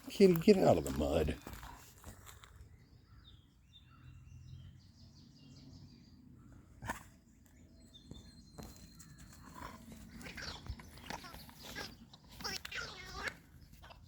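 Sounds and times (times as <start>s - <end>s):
distant birds chirping: 0.0s - 14.0s.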